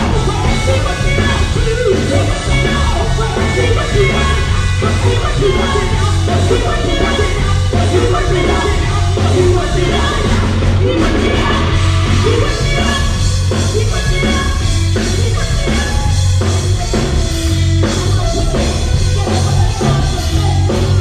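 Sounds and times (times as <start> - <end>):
drum kit: 0.0 - 21.0
heavy bass line: 0.0 - 21.0
live gospel band music: 0.0 - 21.0
person singing: 0.0 - 21.0.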